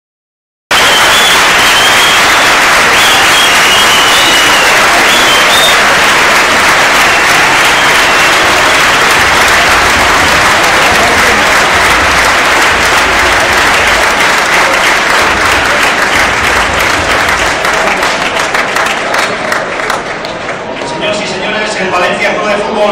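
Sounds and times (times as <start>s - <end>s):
stadium crowd applauding: 0.7s - 21.8s.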